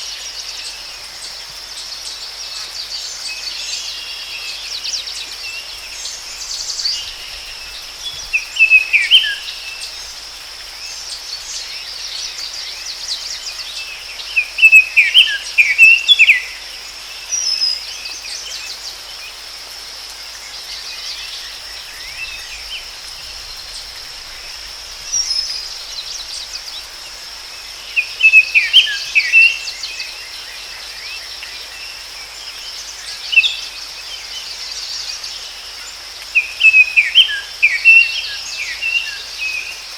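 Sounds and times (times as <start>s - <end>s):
background hiss: 0.0s - 39.9s
high insect drone: 0.0s - 39.9s
songbird chirping: 0.0s - 39.9s.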